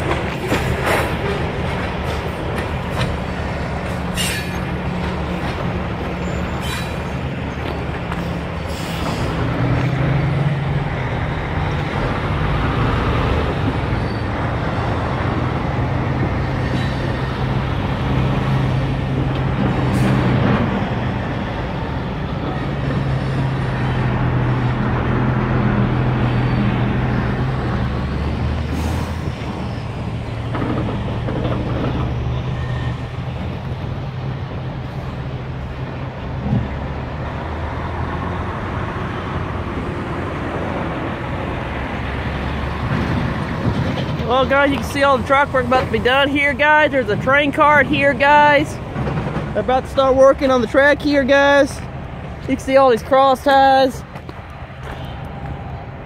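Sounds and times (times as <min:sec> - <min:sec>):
diesel locomotive engine drone: 0:00.0 - 0:56.0
moving train rumble: 0:00.0 - 0:56.0.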